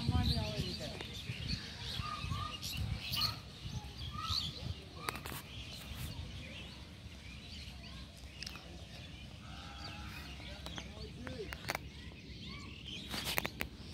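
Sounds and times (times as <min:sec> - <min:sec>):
birds calling: 0:00.0 - 0:13.9
higher bird chirps: 0:00.3 - 0:13.9.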